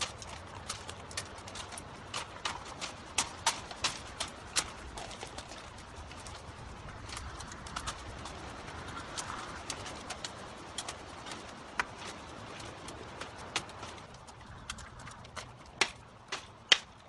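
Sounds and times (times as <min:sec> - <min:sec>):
rustle of brush: 0:00.0 - 0:16.7
bamboo stems clicking and snapping: 0:00.0 - 0:17.0.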